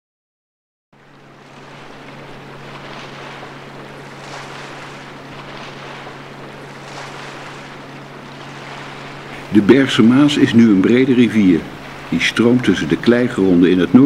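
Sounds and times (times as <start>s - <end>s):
water lapping: 1.0s - 14.0s
diesel engine drone: 1.2s - 14.0s.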